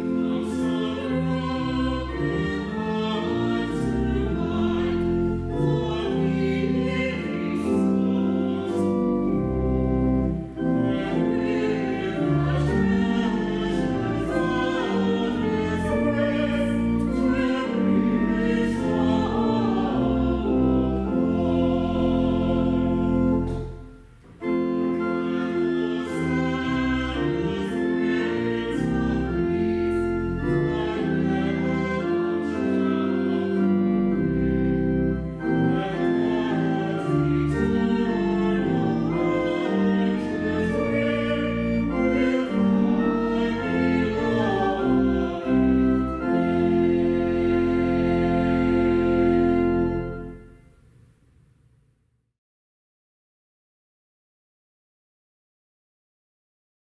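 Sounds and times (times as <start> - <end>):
group singing a hymn: 0.0 - 23.7, 24.4 - 50.3
pipe organ: 0.0 - 50.8.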